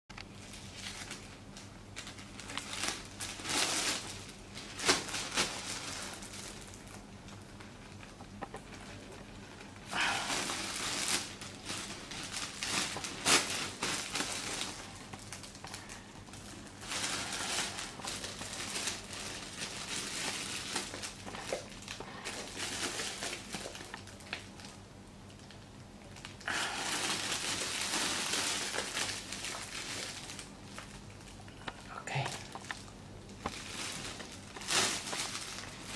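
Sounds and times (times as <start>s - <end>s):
plastic bag crinkling: 0.2s - 35.9s
plastic film snapping: 0.2s - 35.9s.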